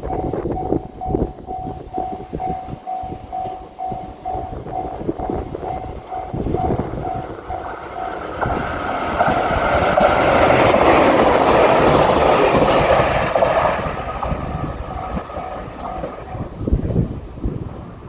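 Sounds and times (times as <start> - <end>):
crossing warning bell ringing: 0.0 - 17.0
diesel train passing: 0.0 - 18.0.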